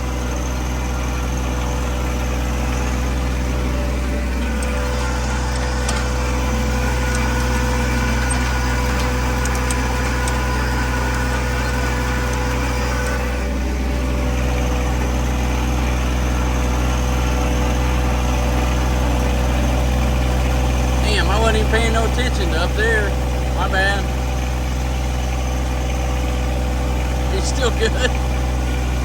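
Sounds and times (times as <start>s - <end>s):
vehicle engine running under load: 0.0s - 29.0s.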